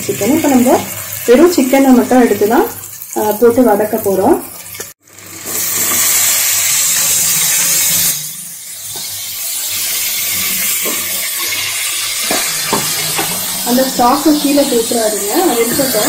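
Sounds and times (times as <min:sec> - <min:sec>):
chicken sizzling in a hot pot: 0:00.0 - 0:16.0.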